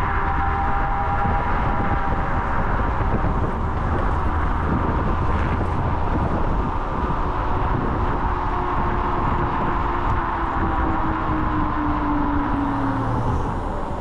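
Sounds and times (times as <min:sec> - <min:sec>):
road rumble: 0:00.0 - 0:14.0
wind rush on microphone: 0:00.0 - 0:14.0.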